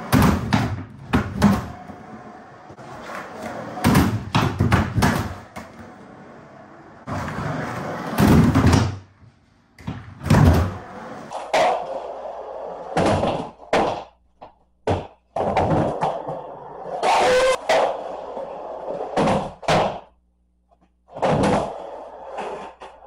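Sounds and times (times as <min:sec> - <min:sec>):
skateboard wheels rolling on concrete: 0:00.0 - 0:20.1, 0:20.8 - 0:23.0.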